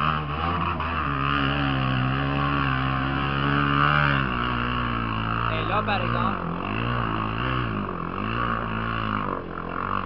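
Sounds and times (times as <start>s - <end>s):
quad engine revving hard: 0.0s - 10.0s.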